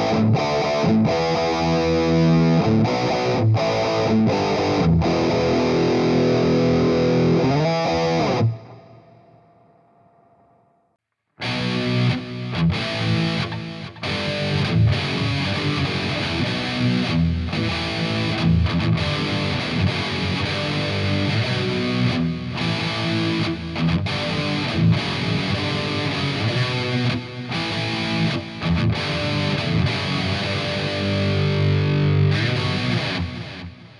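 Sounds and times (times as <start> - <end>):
distorted electric guitar: 0.0 - 10.8, 11.4 - 33.9.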